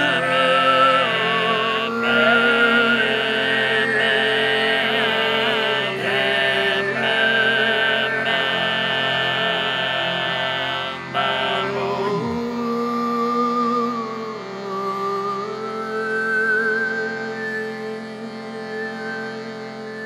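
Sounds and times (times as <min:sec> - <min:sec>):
sustained vocal drone: 0:00.0 - 0:20.0.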